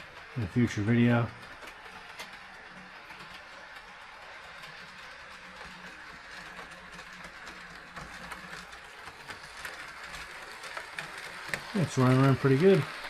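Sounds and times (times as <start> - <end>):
model train motor hum: 0.0 - 13.0
wheels rolling on rails: 0.0 - 13.0.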